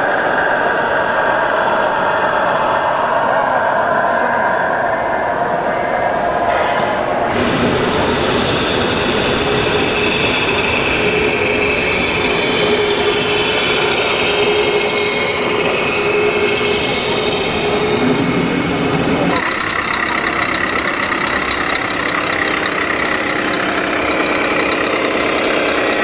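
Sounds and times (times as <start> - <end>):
electric motors whining: 5.1 - 26.0.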